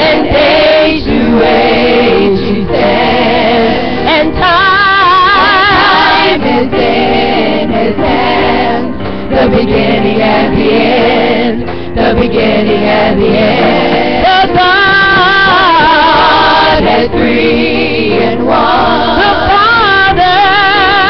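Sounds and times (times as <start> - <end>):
instrumental accompaniment: 0.0 - 21.0
several voices singing: 0.0 - 21.0.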